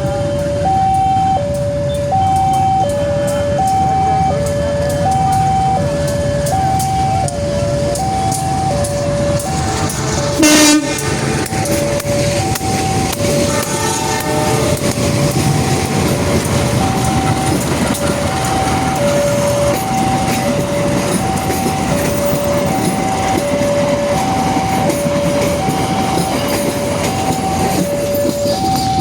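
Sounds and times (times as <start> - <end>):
train rumbling past slowly: 0.0 - 29.0
level crossing alarm two-note signal: 0.2 - 29.0.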